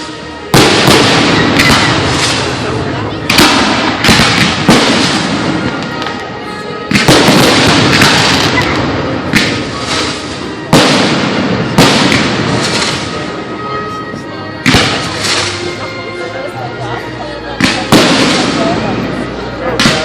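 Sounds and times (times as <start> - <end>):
fireworks bursting: 0.0 - 13.5, 14.6 - 15.9, 17.6 - 20.0.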